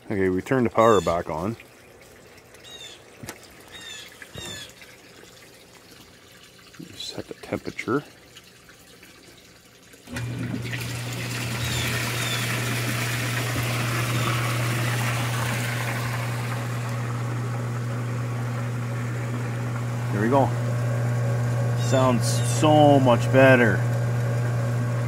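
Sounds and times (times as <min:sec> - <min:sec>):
pump motor hum: 0:00.0 - 0:25.0
water churning through jets: 0:00.0 - 0:25.0.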